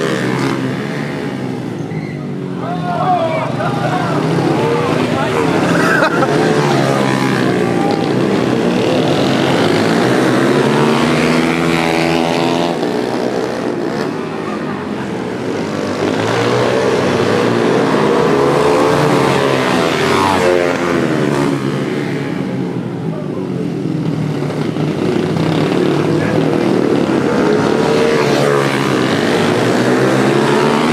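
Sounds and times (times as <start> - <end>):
pit bike engines revving: 0.0 - 30.9.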